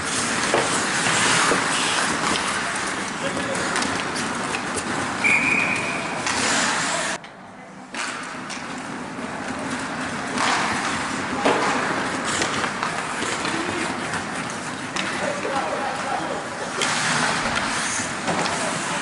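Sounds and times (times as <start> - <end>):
outdoor noise at a game: 0.0 - 19.0.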